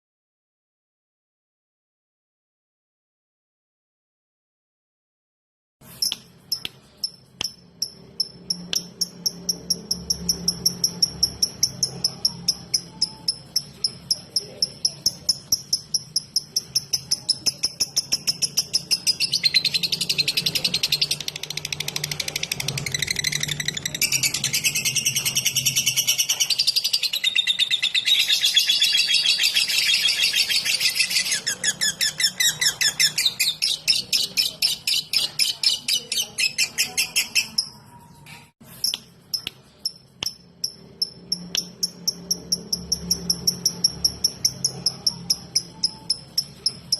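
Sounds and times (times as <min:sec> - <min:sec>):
lovebird high chirps: 0:05.8 - 0:46.9.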